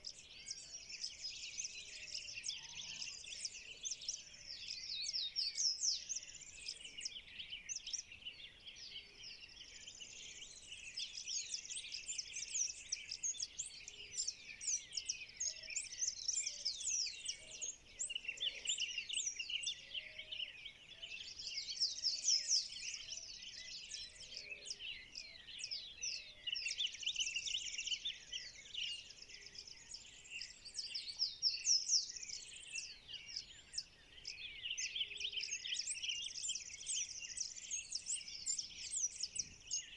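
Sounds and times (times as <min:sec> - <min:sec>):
birds chirping and singing: 0:00.0 - 0:39.9
fainter lower bird calls: 0:00.0 - 0:39.9.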